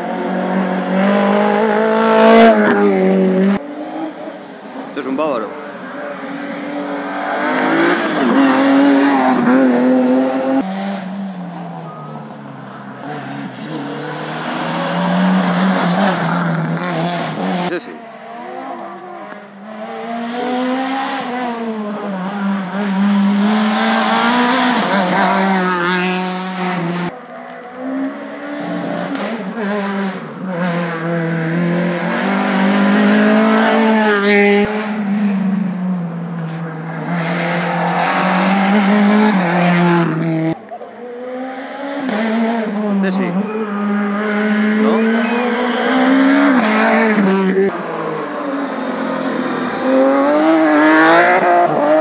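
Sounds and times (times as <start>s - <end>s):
rally car engine revving: 0.0s - 52.0s.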